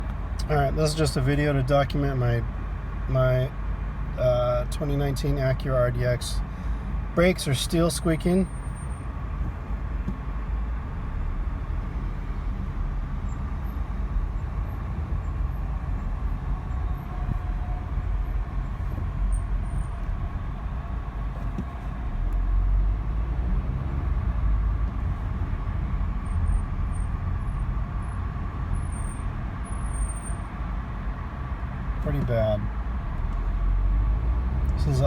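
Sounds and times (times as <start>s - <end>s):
road and engine noise in cabin: 0.0s - 35.0s.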